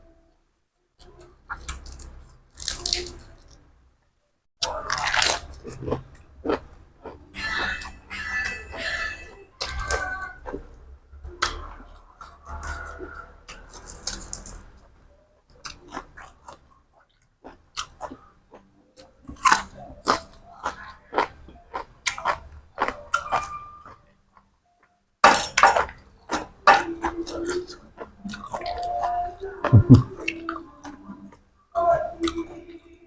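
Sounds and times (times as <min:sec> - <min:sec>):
person chewing crunchy food: 0:01.0 - 0:03.6, 0:04.6 - 0:14.9, 0:15.5 - 0:24.0, 0:25.3 - 0:31.4.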